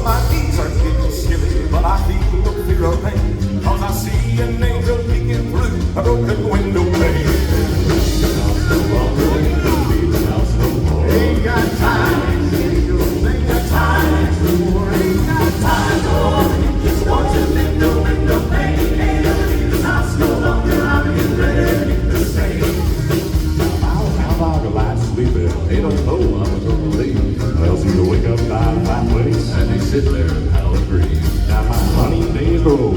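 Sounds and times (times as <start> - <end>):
band with bass and drums: 0.0 - 32.9
gospel quartet singing: 0.0 - 32.9.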